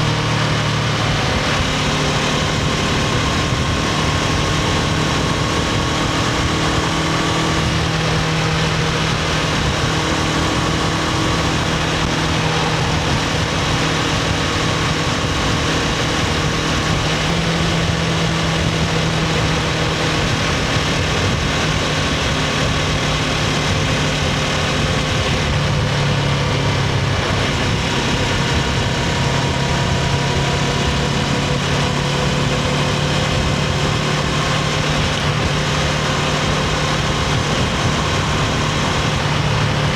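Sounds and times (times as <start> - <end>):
motorcycle engine running: 0.0 - 39.9
rush of noise: 0.0 - 39.9.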